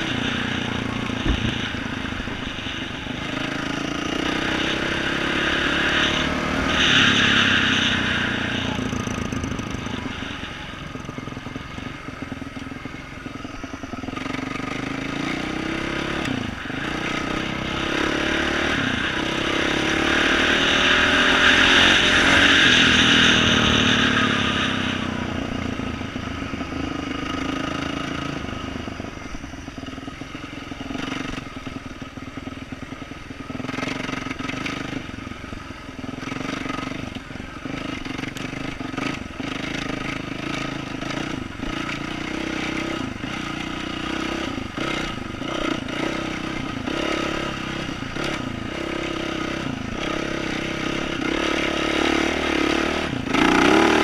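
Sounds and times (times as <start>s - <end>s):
dirt bike engine revving: 0.0s - 32.3s, 33.5s - 35.2s, 36.1s - 54.0s.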